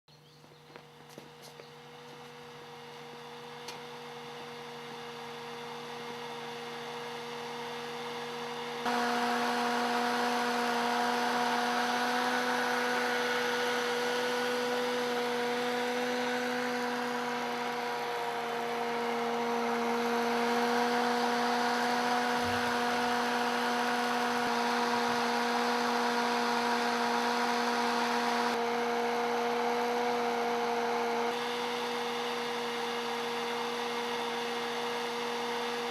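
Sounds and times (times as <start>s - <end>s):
hair dryer motor hum: 1.2s - 35.9s.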